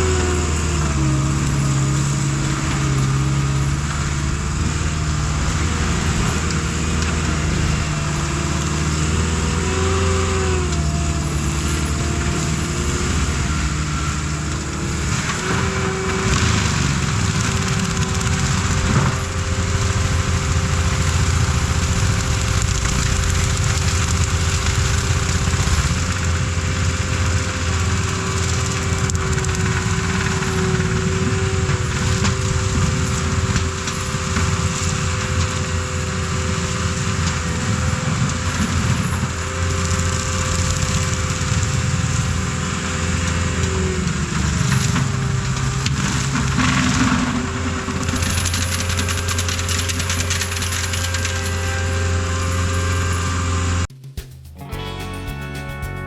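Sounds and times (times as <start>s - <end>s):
heavy machinery engine running: 0.0s - 53.8s.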